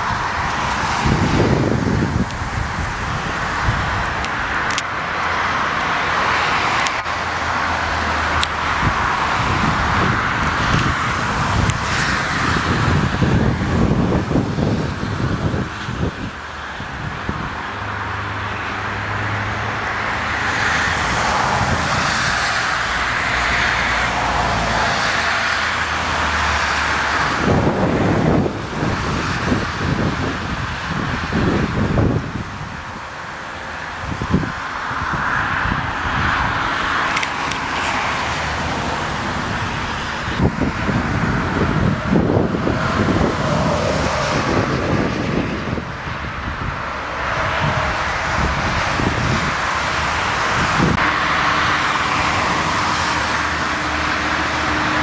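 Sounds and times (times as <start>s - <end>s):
gusty wind buffeting microphone: 0.0s - 55.0s
jet airliner engines: 0.0s - 55.0s.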